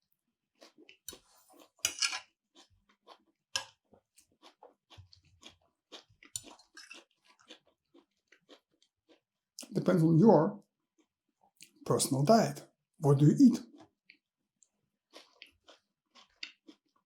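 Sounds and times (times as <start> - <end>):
person chewing food: 0.5 - 9.8, 10.7 - 11.8, 13.7 - 17.0.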